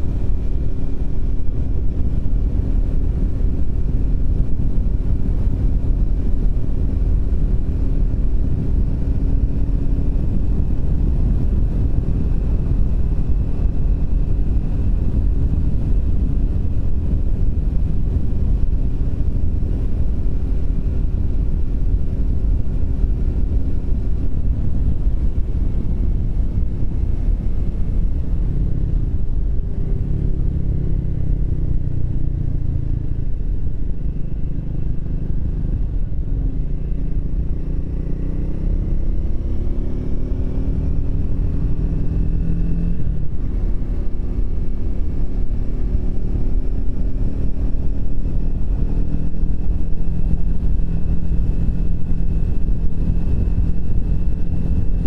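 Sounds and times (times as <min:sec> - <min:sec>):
low wind rumble: 0:00.0 - 0:55.0
motorcycle engine cruising: 0:00.0 - 0:55.0.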